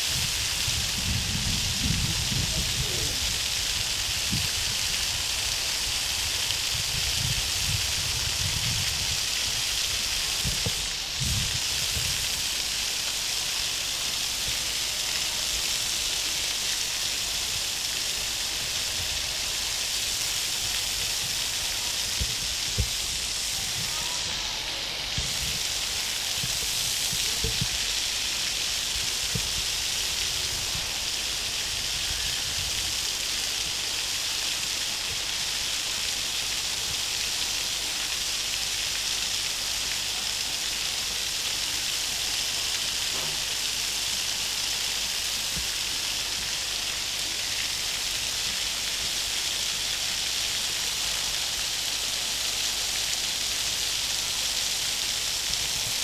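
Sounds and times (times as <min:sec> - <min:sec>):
waterfall splashing into pond: 0:00.0 - 0:56.0.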